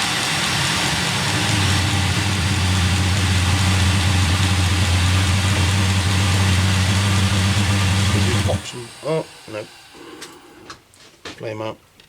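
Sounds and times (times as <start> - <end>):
low burner hum: 0.0 - 11.1
heater fan whirring: 0.0 - 11.2.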